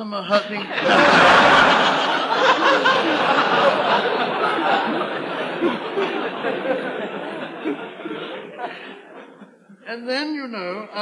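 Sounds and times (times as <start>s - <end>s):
audience laughing: 0.3s - 9.9s.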